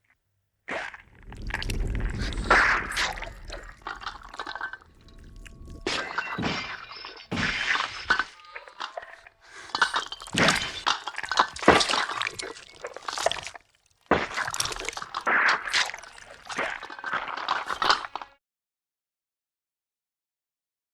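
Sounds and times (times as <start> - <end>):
crashing and breaking sounds: 0.7 - 18.3.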